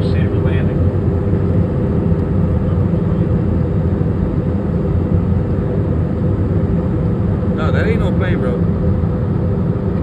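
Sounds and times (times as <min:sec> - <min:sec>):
airliner cabin engine drone: 0:00.0 - 0:10.0.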